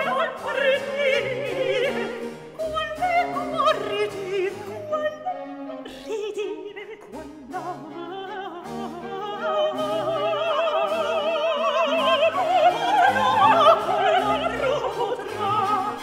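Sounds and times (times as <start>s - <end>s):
operatic singing: 0.0s - 16.0s
orchestral accompaniment: 0.0s - 16.0s.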